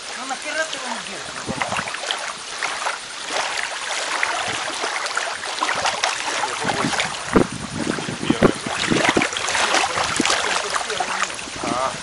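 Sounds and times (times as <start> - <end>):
water splashing and sloshing: 0.0 - 12.0
sharp splashes or knocks: 1.2 - 11.6.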